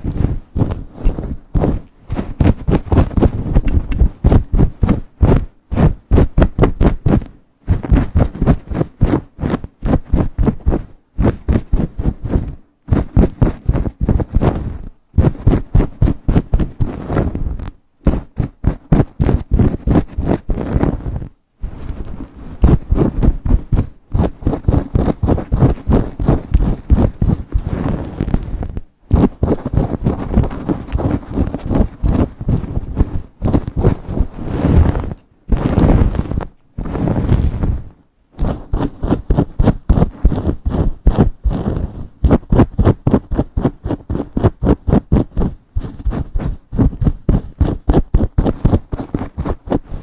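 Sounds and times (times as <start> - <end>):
nails scratching through hair: 0.0 - 50.0.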